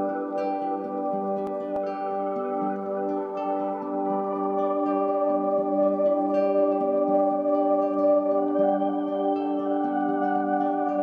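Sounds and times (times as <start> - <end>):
slow sustained keyboard chords: 0.0 - 11.0.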